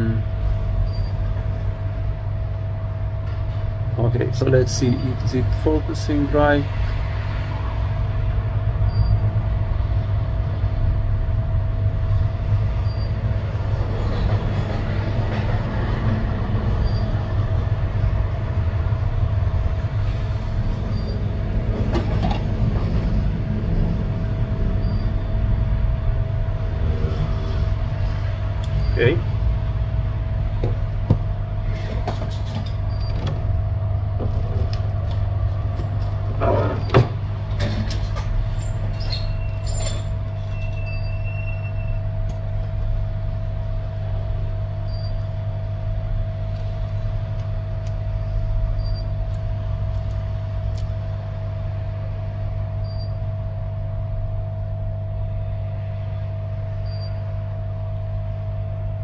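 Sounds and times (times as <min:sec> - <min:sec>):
blower humming and whining: 0:00.0 - 0:59.0.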